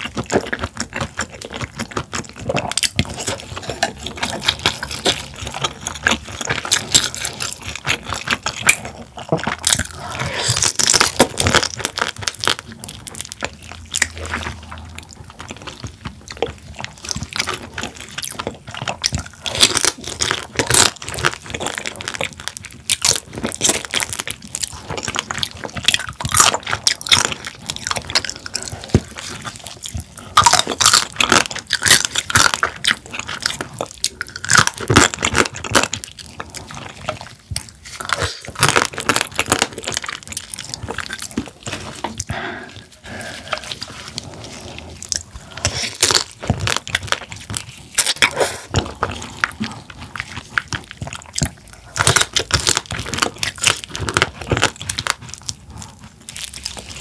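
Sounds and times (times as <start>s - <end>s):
crab shell crunching while eating: 0.0s - 57.0s.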